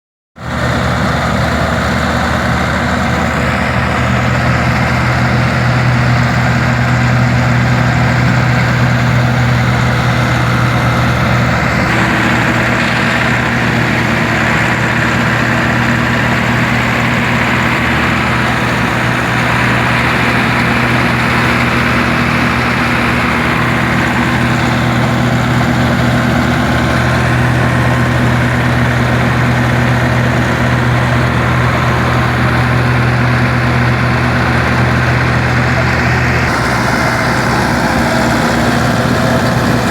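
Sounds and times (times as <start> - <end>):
straw chopper blower rushing: 0.4 - 39.9
tractor engine hum: 0.4 - 39.9.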